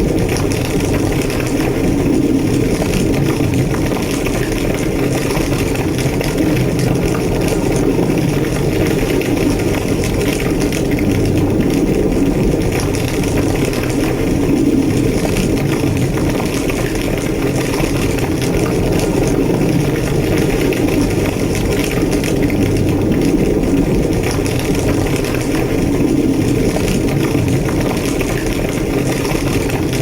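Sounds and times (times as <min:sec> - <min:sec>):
faint fire crackling: 0:00.0 - 0:30.0
fire roaring: 0:00.0 - 0:30.0.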